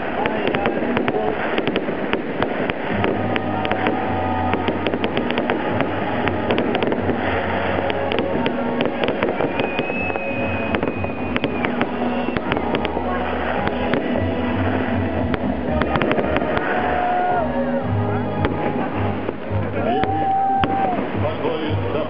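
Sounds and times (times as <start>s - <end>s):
high firework whistle: 0.0s - 21.4s
fireworks popping and crackling: 0.0s - 22.0s.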